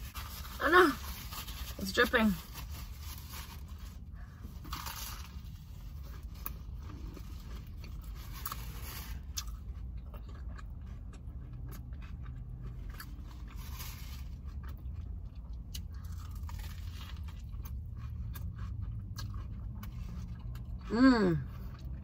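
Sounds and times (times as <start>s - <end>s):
steady low hum: 0.0s - 22.0s
biting and chewing: 2.6s - 22.0s.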